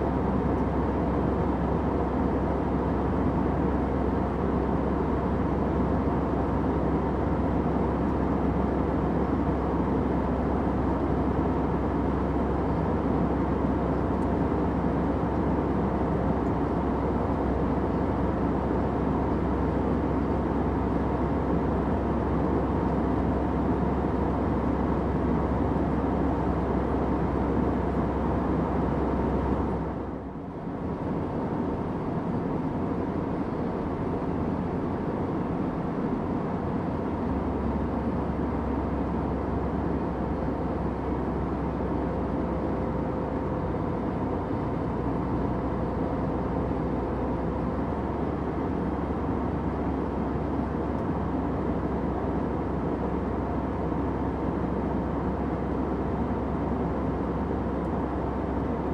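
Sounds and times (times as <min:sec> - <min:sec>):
airliner cabin drone: 0:00.0 - 0:58.9.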